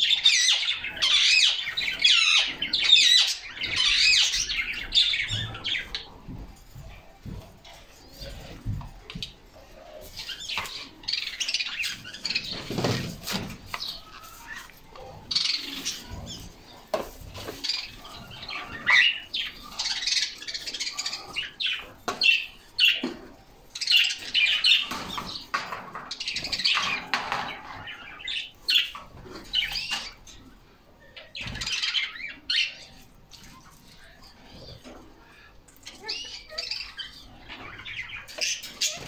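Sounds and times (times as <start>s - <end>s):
canaries chirping: 0.0s - 39.0s.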